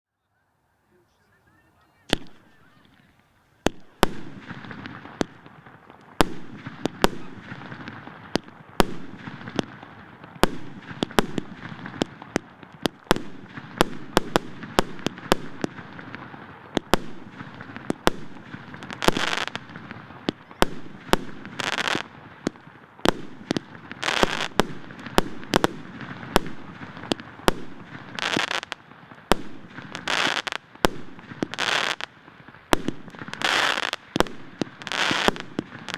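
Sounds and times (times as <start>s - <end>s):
firework cake shots: 2.0s - 32.1s
firework crackling: 2.1s - 35.9s.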